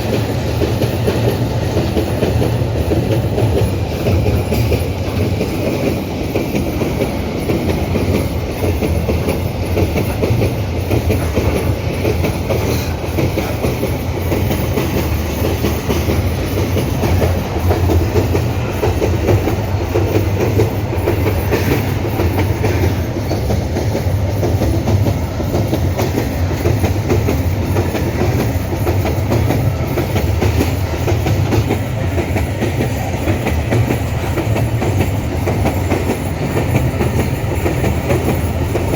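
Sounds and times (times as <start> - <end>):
freight train wagons rolling past: 0.0 - 38.9.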